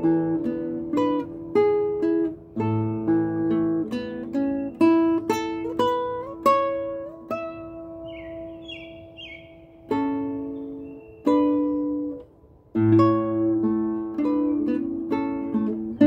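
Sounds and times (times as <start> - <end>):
fingerstyle classical guitar: 0.0 - 16.0.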